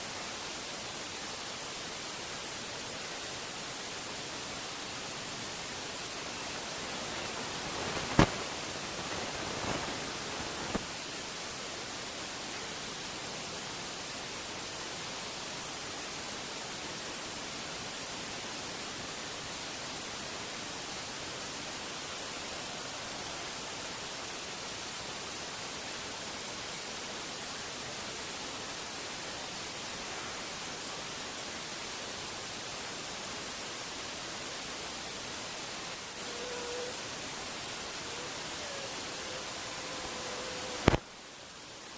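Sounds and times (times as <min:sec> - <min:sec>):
steady static hiss: 0:00.0 - 0:41.9.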